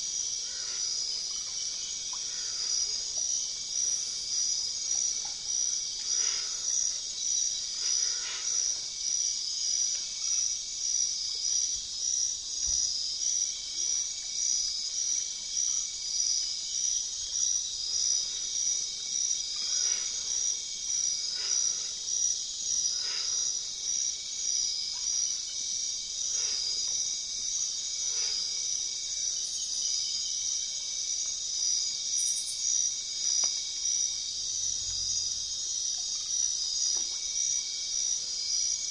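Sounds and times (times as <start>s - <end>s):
insects trilling: 0.0s - 11.3s, 15.2s - 38.9s.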